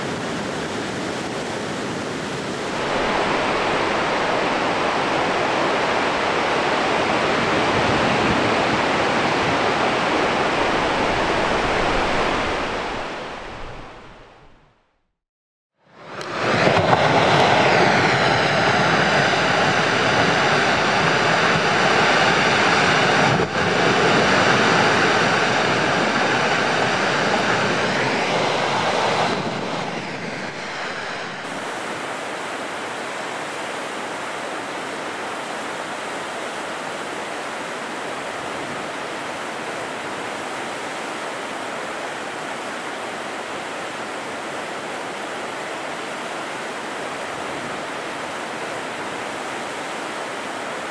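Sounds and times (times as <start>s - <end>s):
churned water and waves: 0.0s - 14.8s, 15.9s - 50.9s.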